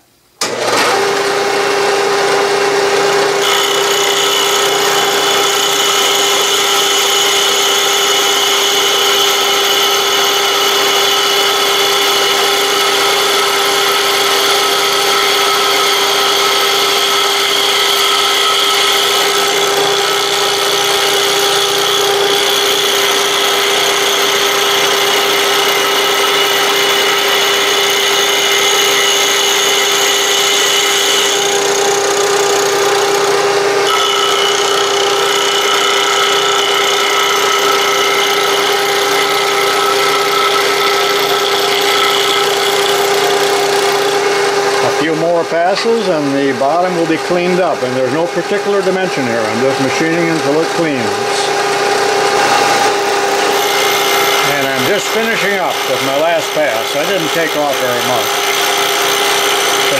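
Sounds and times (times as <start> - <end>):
end mill cutting metal: 0.4 - 59.9
milling machine motor hum: 0.4 - 59.9.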